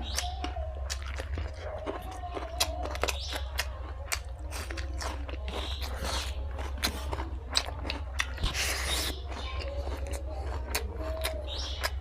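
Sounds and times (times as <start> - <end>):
person chewing and crunching: 0.0 - 12.0.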